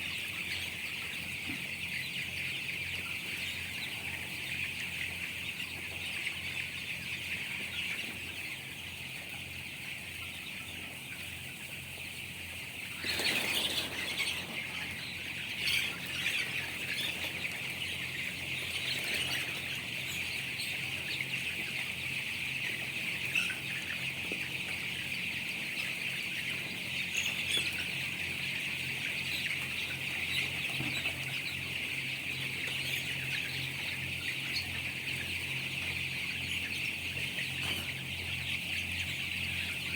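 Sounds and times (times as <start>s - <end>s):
chicks peeping and chirping: 0.0s - 39.9s.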